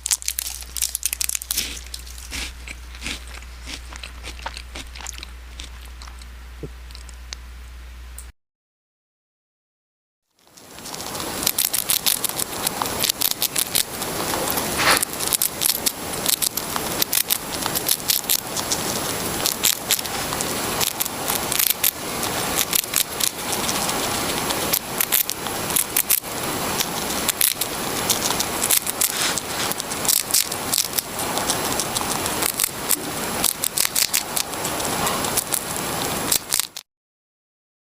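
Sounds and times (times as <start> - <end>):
person munching crunchy snack: 0.0 - 7.3, 10.5 - 36.8.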